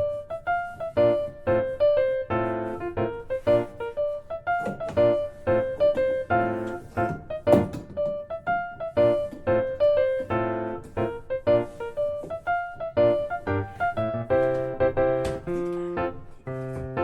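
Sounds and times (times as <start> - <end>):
light piano tune: 0.0 - 17.0.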